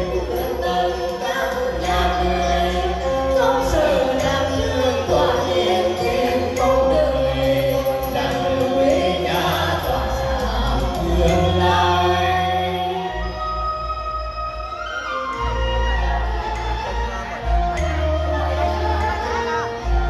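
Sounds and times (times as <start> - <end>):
person singing over backing track: 0.0 - 20.0
steady bass line: 0.0 - 20.0.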